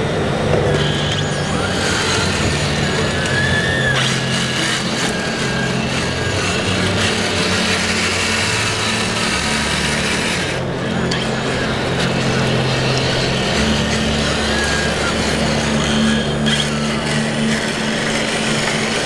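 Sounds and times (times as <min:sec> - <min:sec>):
crowded hall din: 0:00.0 - 0:19.0
electric motor whine: 0:00.0 - 0:19.0.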